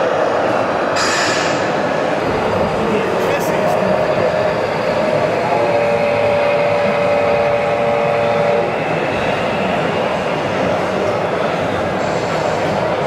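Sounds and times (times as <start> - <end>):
exhibition hall din: 0.0 - 13.0.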